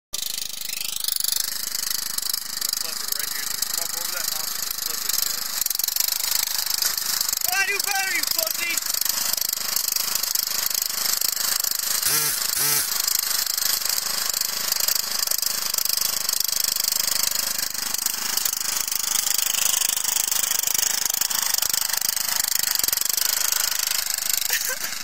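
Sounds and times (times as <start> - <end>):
riding mower engine running: 0.2 - 25.0.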